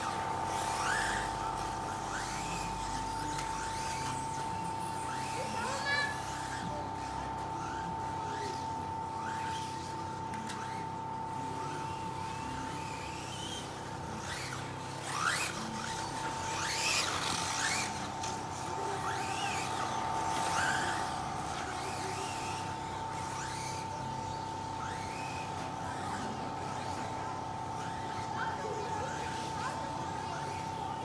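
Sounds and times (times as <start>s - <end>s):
electric motor whining: 0.0s - 31.0s
steady high hum: 0.0s - 31.0s.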